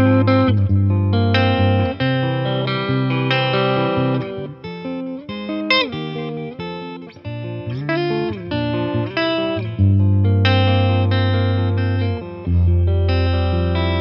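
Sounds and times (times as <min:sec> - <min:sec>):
clean electric guitar line: 0:00.0 - 0:14.0.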